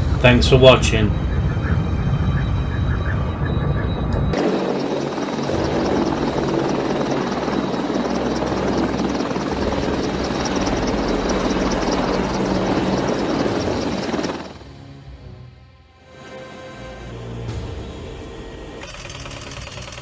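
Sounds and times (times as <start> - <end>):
helicopter rotor chop: 0.0 - 15.0, 17.3 - 20.0
helicopter turbine noise: 0.0 - 15.2, 16.2 - 20.0.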